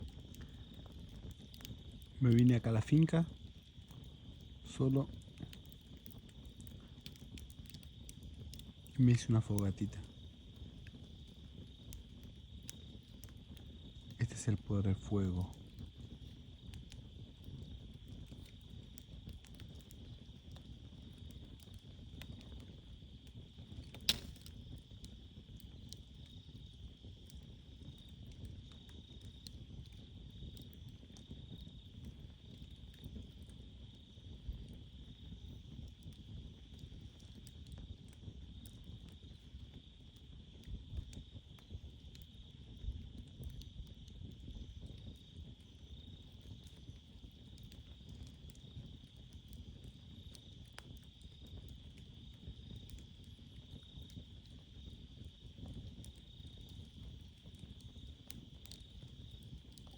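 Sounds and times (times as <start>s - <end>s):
campfire crackling and popping: 0.0s - 59.9s
crickets chirring: 0.0s - 59.9s.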